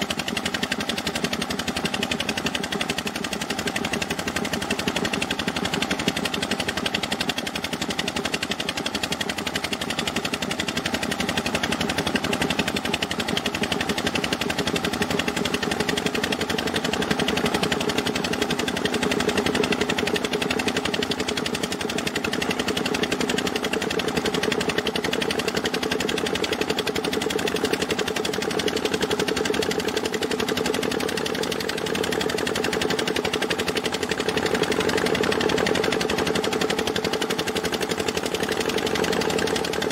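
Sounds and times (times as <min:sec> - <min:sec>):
engine chugging: 0:00.0 - 0:39.9.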